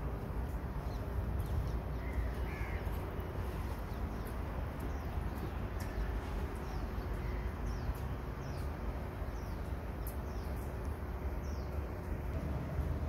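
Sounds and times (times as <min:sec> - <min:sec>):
low outdoor rumble: 0:00.0 - 0:13.0
birds chirping: 0:00.3 - 0:13.0.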